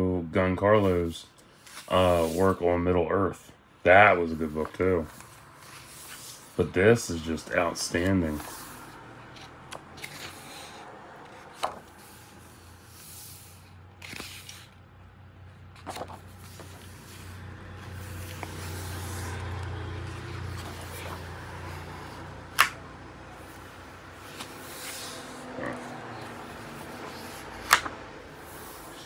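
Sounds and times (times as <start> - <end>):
book pages turning: 1.4 - 2.6, 4.3 - 14.8, 15.6 - 29.0.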